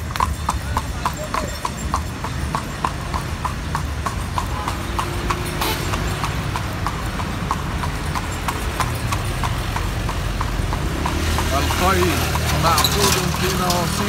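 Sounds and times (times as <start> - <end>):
horse hooves clip-clopping on asphalt: 0.0 - 14.0
low rumble of wheels and traffic: 0.0 - 14.0.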